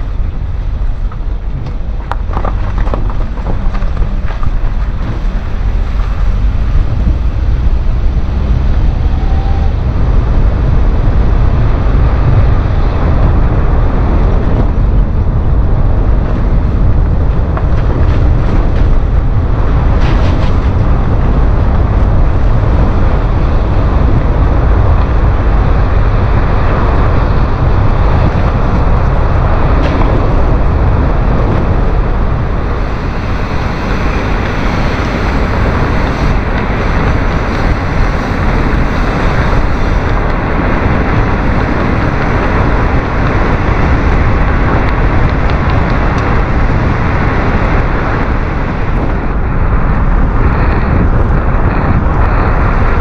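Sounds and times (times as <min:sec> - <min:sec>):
car driving rumble: 0:00.0 - 0:53.0
road and wind noise: 0:00.0 - 0:53.0.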